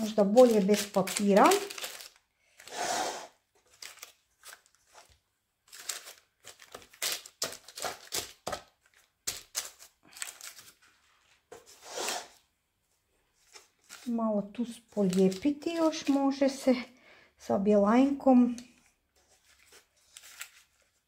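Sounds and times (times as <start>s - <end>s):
baking paper crinkling: 0.0s - 2.8s, 3.5s - 12.4s, 13.2s - 16.8s, 18.1s - 21.0s.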